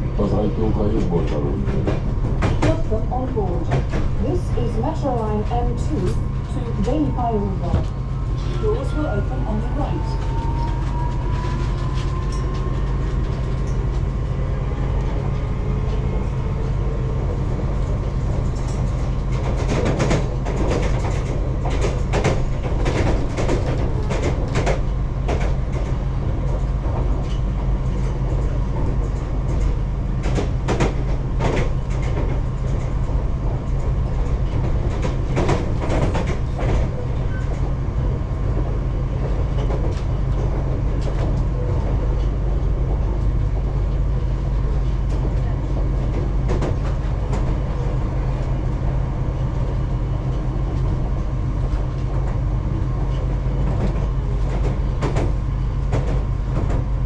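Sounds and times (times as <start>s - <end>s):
train rumble in tunnel: 0.0s - 57.0s.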